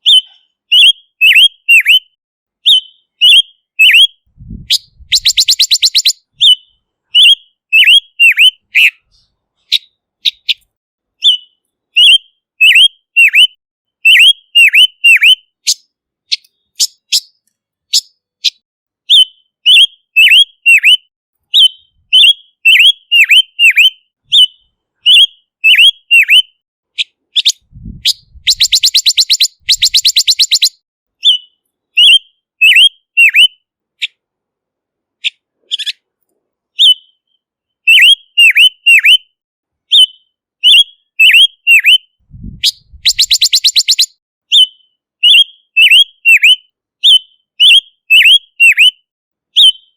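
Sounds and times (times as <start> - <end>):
bird whistled calls: 0.0 - 10.6, 11.2 - 34.1, 36.8 - 39.3, 39.9 - 49.0, 49.6 - 49.9.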